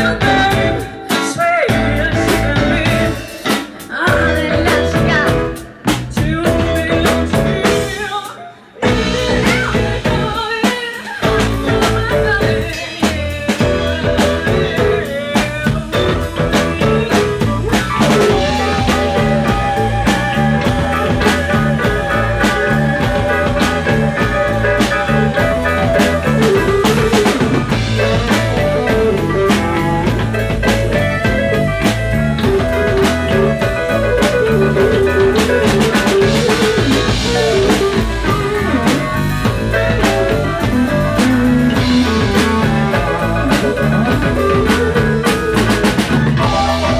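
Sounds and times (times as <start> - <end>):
blues-rock band playing: 0.0 - 46.9
drum kit beat: 0.0 - 46.9.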